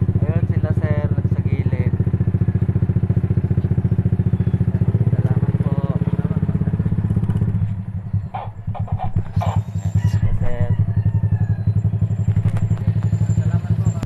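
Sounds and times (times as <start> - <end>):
small motorcycle engine idling: 0.0 - 14.0.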